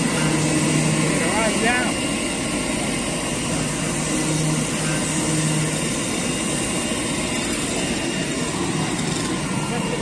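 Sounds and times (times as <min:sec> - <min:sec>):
machinery running: 0:00.0 - 0:10.0.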